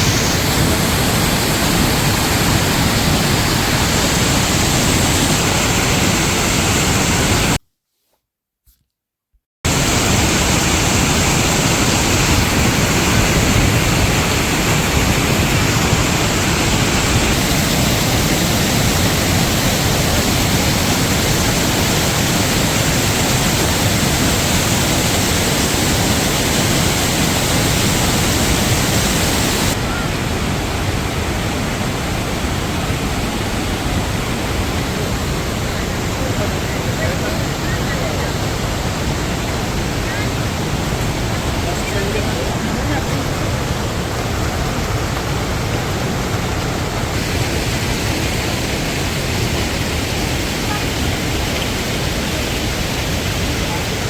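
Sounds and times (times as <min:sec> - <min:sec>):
waterfall roaring: 0:00.0 - 0:07.6, 0:09.7 - 0:54.0.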